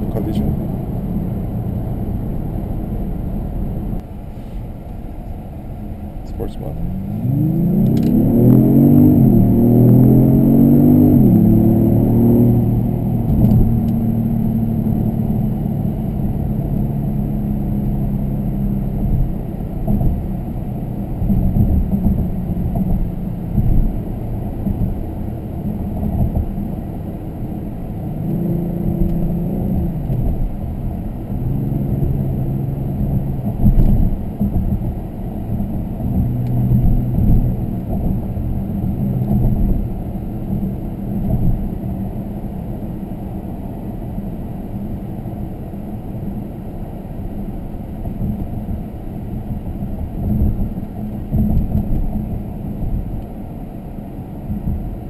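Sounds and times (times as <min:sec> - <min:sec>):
car engine: 0:00.0 - 0:55.0
road rumble: 0:00.0 - 0:55.0.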